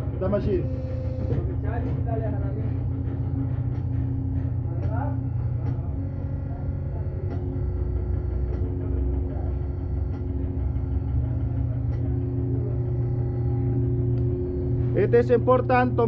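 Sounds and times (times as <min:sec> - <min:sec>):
hydraulic pump humming: 0:00.0 - 0:16.0.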